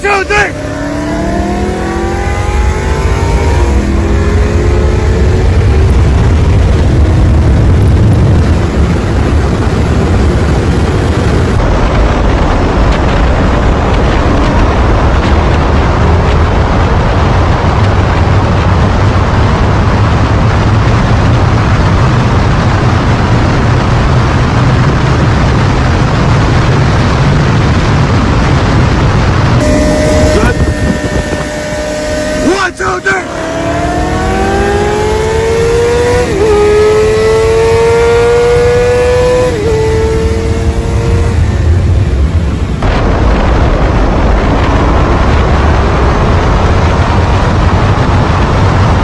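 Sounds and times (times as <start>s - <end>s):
engine accelerating at full throttle: 0.0s - 49.0s
wind and road noise: 0.0s - 49.0s.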